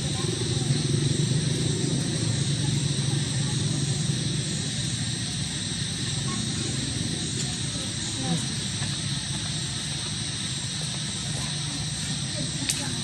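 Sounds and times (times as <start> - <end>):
constant high hiss: 0.0 - 13.0.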